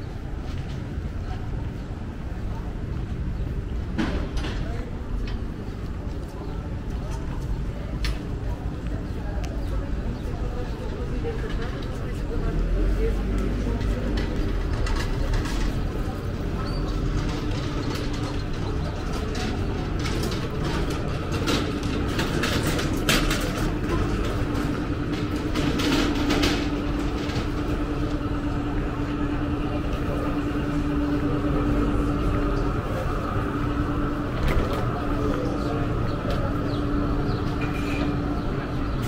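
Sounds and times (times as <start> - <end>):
low street rumble: 0.0 - 39.0
steady low hum: 0.0 - 39.0.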